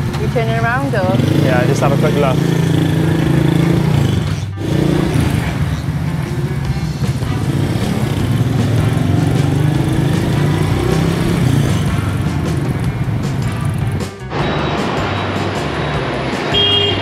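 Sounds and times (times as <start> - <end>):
small motorbike engine: 0.0 - 14.0
background music: 0.0 - 17.0.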